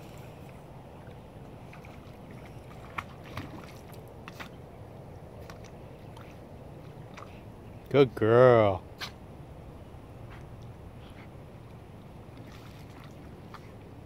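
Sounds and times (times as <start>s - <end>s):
faint water sounds: 0.0s - 14.0s.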